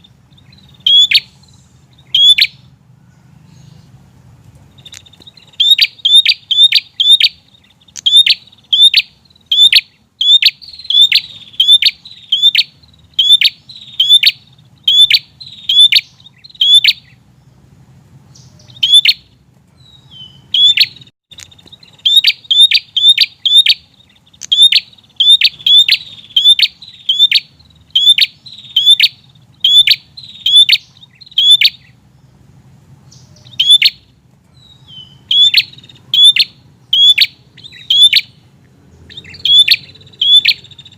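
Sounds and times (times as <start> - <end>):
bird chirping sharply: 0.0 - 4.0, 4.7 - 40.9.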